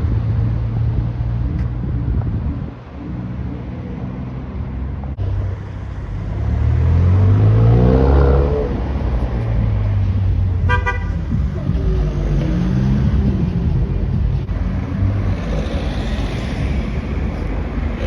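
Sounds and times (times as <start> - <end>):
car engine and exhaust revving: 0.0 - 18.0.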